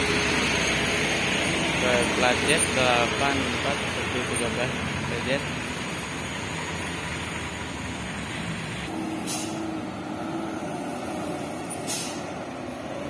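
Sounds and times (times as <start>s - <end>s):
cars and trucks passing: 0.0s - 13.0s.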